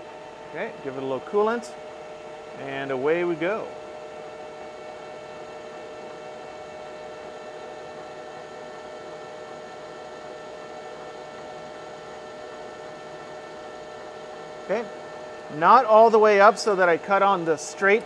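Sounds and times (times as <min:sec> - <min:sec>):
metal lathe humming: 0:00.0 - 0:18.0.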